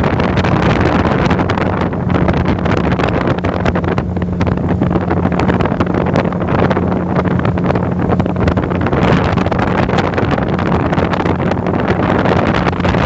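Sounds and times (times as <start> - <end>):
speedboat engine cruising: 0.0 - 13.0
wind rushing over microphone: 0.0 - 13.0.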